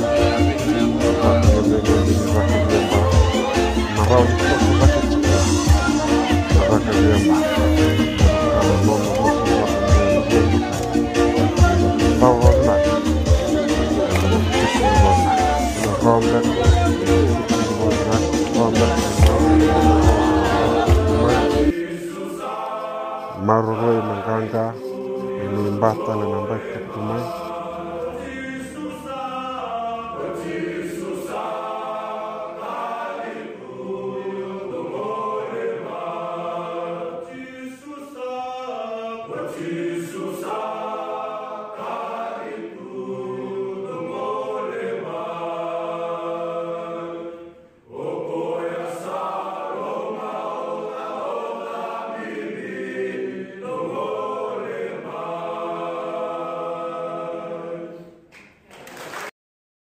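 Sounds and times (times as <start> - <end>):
choir singing in harmony: 0.0 - 58.3.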